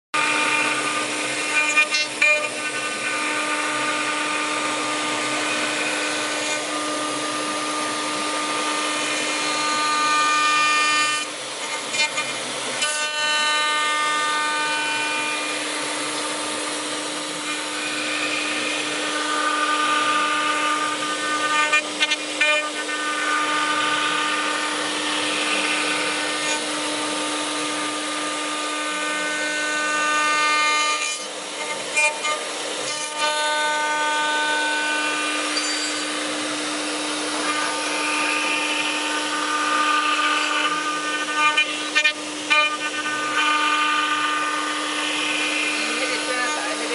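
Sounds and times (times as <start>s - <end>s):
router spindle cutting wood: 0.1s - 46.9s.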